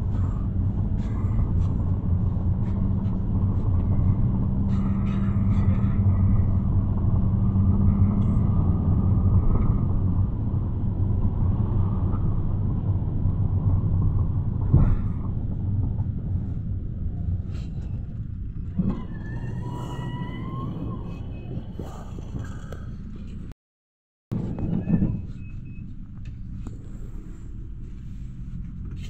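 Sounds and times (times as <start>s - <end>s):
engine and tyres rumbling: 0.0s - 23.6s, 24.3s - 29.0s.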